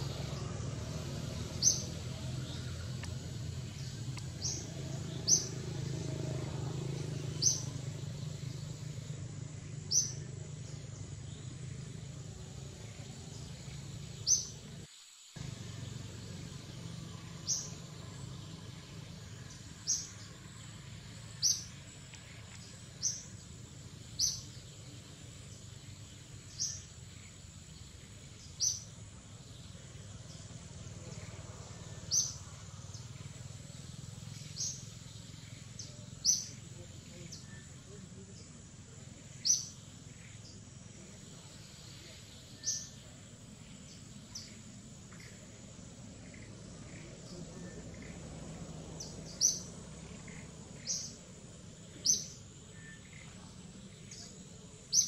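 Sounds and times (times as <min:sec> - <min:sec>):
bird chirping: 0:00.0 - 0:55.0
low background hum: 0:00.0 - 0:55.0.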